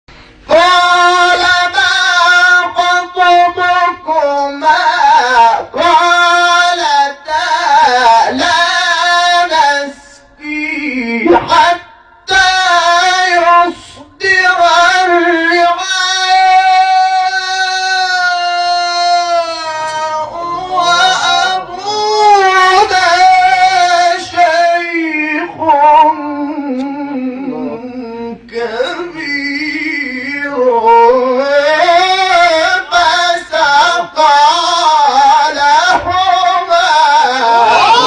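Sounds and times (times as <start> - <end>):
man chanting recitation: 0.4 - 38.0.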